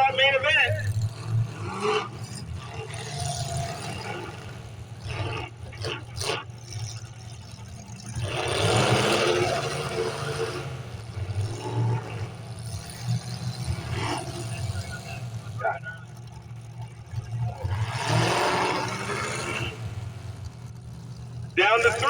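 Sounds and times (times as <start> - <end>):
car engines running: 0.0 - 22.0.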